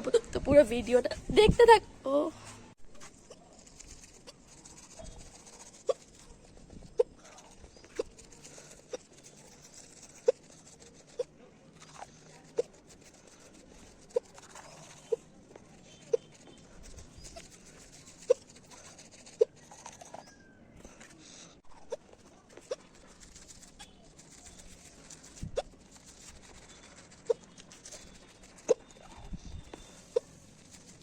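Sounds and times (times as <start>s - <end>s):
toothbrush brushing teeth: 3.0s - 31.0s.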